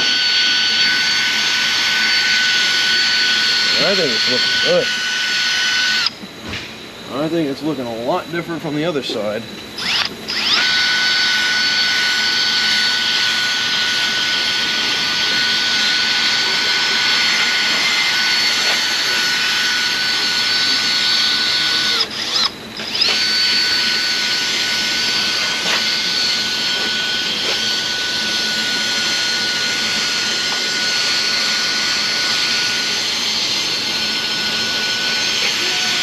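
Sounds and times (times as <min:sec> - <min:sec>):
electric power tool whining: 0:00.0 - 0:36.0.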